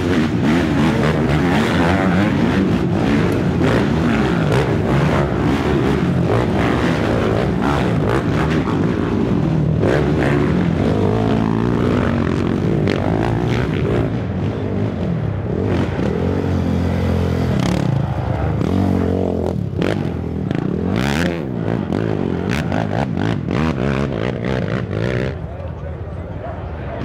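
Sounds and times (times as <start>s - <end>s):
atv engines revving: 0.0s - 27.0s.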